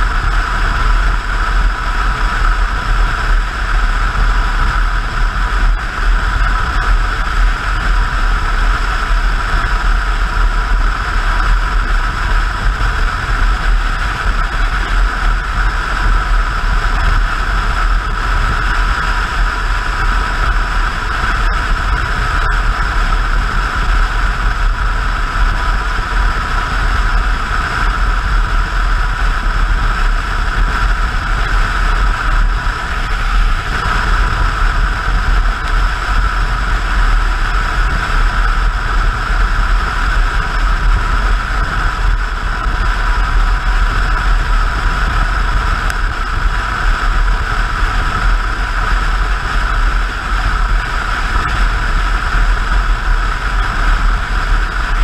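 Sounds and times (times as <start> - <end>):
motorcycle engine rumble: 0.0 - 55.0
wind and road noise: 0.0 - 55.0.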